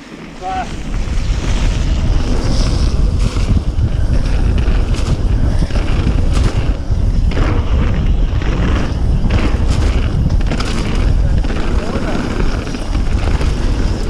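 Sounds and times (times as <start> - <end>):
bike rattling: 0.0 - 14.0
wind buffeting microphone: 0.0 - 14.0.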